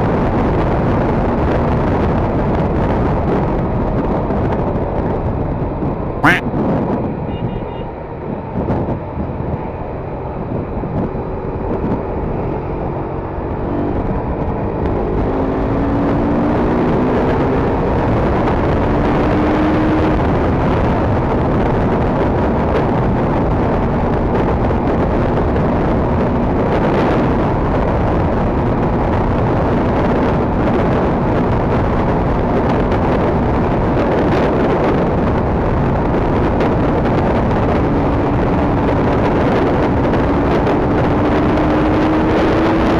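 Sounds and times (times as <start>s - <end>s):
wind and road noise: 0.0s - 42.9s
motorcycle engine accelerating: 8.3s - 42.9s.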